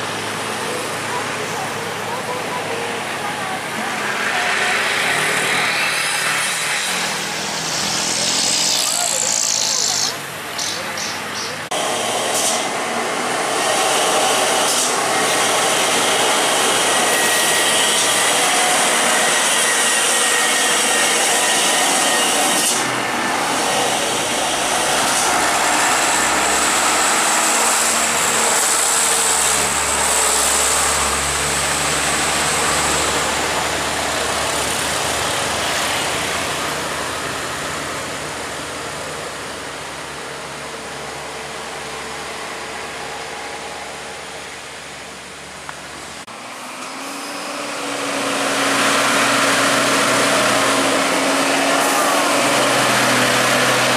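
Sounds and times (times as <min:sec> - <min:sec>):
trucks and traffic passing: 0:00.0 - 0:53.9.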